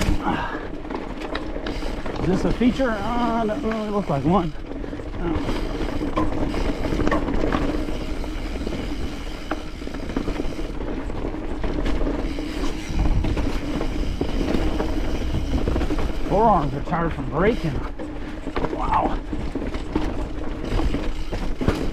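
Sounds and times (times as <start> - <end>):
bike tyre rumble: 0.0 - 21.9.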